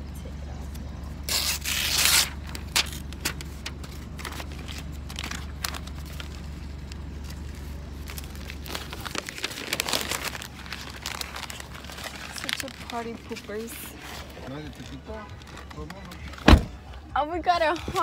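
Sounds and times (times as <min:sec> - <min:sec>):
car engine rumble: 0:00.0 - 0:18.0
paper and tape rustling: 0:01.2 - 0:18.0.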